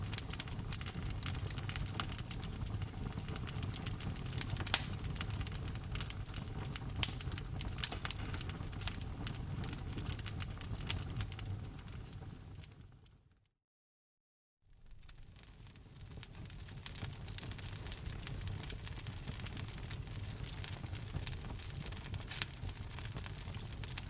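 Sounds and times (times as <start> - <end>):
loud fire pops: 0.0 - 12.6, 14.8 - 24.0
wood fire crackling: 0.0 - 13.0, 14.8 - 24.0.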